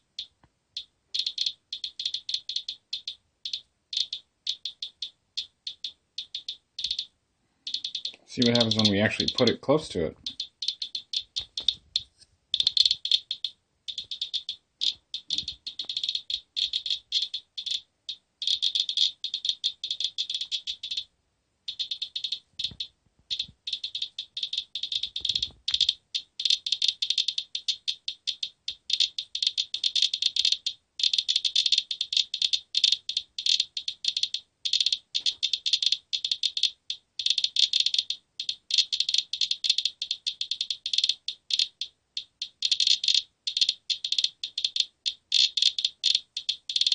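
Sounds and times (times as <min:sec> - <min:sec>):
geiger counter clicking: 0:00.0 - 0:21.1, 0:21.7 - 0:46.9.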